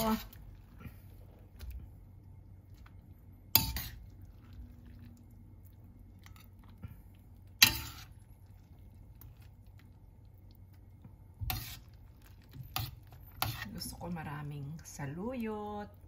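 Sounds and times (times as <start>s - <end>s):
soft scooping of soup: 0.3s - 13.8s.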